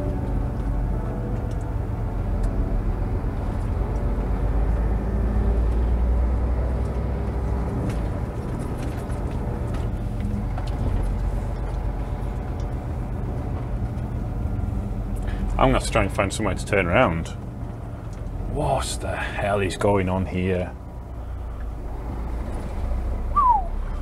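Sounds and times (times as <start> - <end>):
truck diesel engine rumbling: 0.0 - 24.0.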